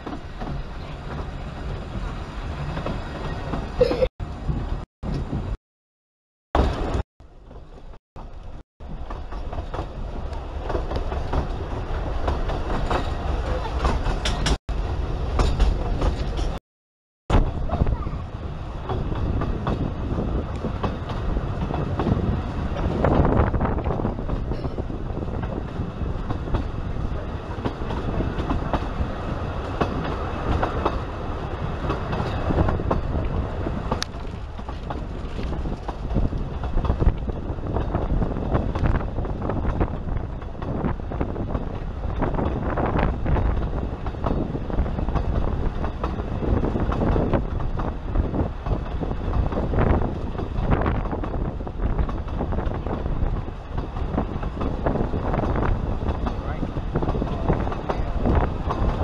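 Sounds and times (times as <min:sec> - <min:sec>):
train rumbling along track: 0:00.0 - 0:05.6, 0:06.6 - 0:16.6, 0:17.3 - 0:59.0.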